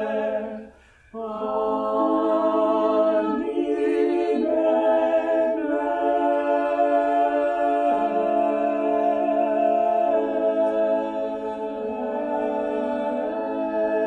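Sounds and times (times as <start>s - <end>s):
unaccompanied choir singing: 0.0s - 14.0s.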